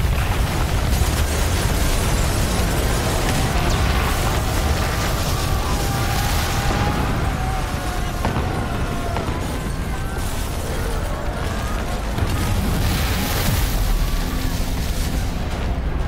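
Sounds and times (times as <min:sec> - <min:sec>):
sharp cracks: 0:00.0 - 0:15.6
debris crashing: 0:00.0 - 0:16.0.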